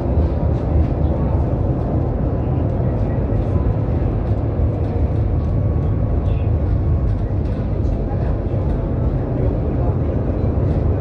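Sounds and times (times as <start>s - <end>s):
tram rumbling on track: 0.0s - 11.0s.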